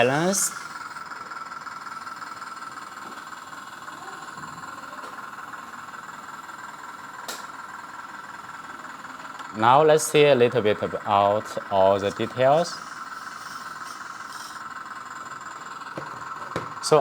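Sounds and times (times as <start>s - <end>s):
toy excavator motor humming: 0.0s - 17.0s.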